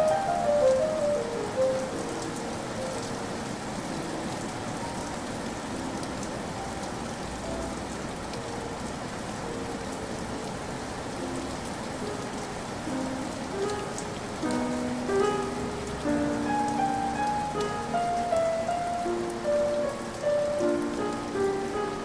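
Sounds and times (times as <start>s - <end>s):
faint slow piano notes: 0.0s - 22.0s
steady rain falling: 0.0s - 22.0s.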